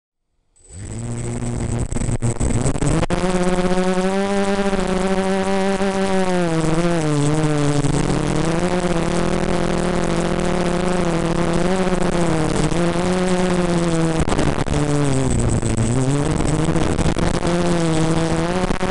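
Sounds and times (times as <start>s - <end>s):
quadcopter motors whining: 0.6s - 18.9s.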